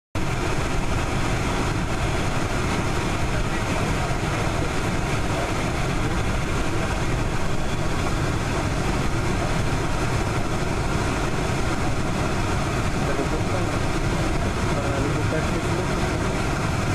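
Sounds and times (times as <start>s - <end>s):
jet engines running: 0.2s - 16.9s.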